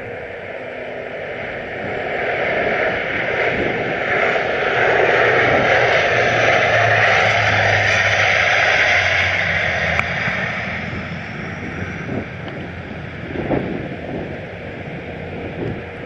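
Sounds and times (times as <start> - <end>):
turboprop plane flying past: 0.0 - 16.0.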